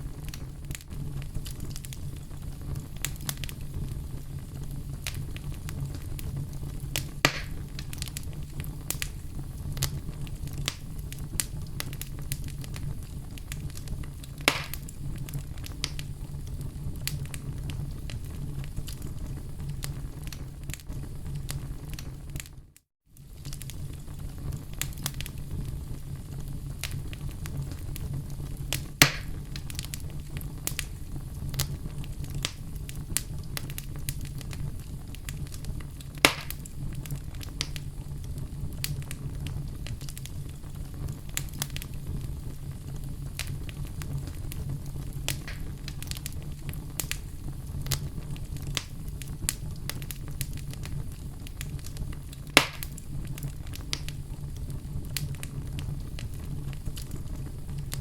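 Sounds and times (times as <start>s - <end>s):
campfire crackling: 0.0s - 22.6s, 23.2s - 58.0s
loud fire pops: 0.0s - 58.0s.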